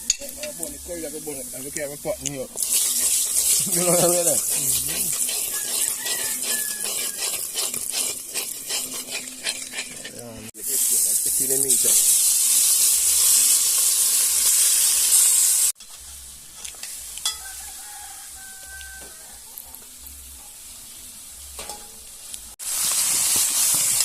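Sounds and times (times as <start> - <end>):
spices sizzling in hot oil: 0.0 - 24.0.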